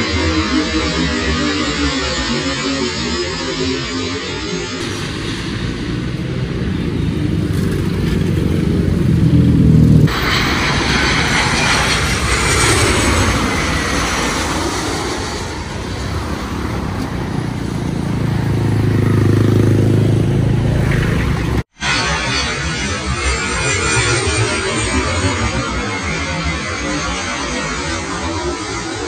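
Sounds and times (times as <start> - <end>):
jet engine roar with high whine: 0.0 - 29.0
jet engines rumbling on approach: 0.0 - 29.0.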